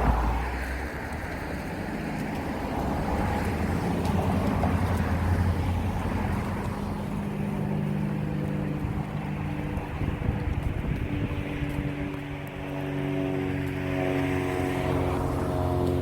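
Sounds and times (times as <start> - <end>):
motor engine humming: 0.0 - 1.7, 3.7 - 16.0.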